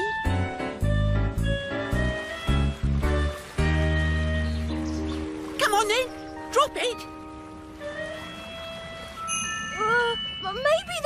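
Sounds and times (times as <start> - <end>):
soft sustained score music: 0.0 - 10.9.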